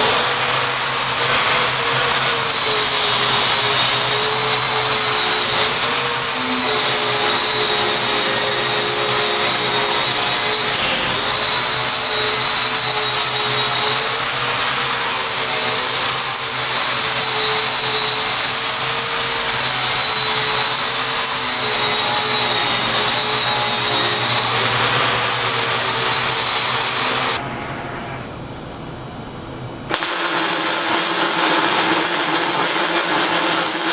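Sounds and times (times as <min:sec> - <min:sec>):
welding arc hissing: 0:00.0 - 0:27.4, 0:29.9 - 0:33.9
faint wavering whine: 0:00.0 - 0:33.9.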